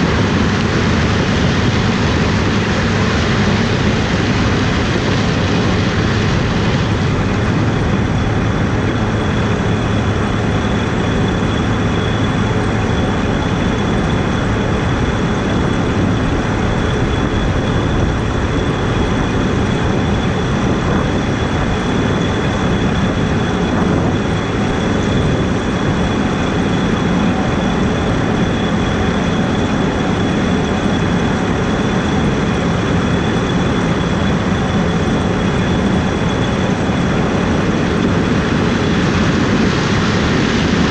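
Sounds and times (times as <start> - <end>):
harvest machinery engine: 0.0 - 40.9
high-pitched whine: 0.0 - 40.9.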